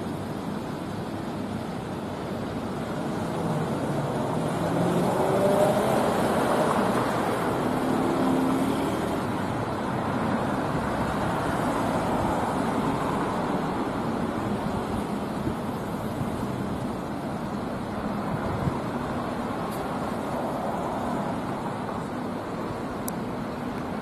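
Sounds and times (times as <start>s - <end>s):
car engines and tyres: 0.0s - 24.0s.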